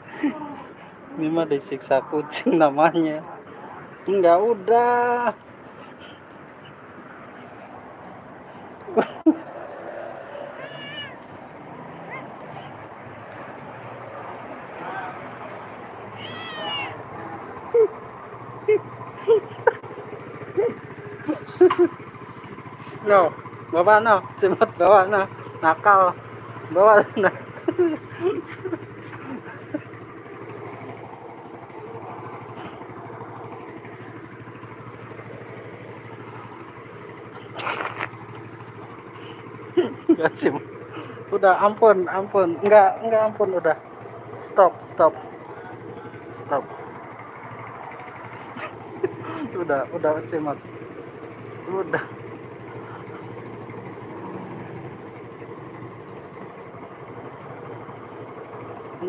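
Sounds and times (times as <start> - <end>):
engine idling: 0.0 - 9.6, 10.2 - 59.0.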